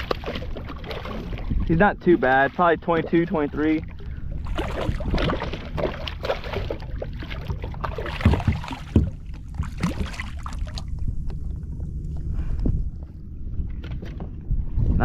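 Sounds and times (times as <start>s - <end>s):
water splashing around kayak: 0.0s - 15.0s.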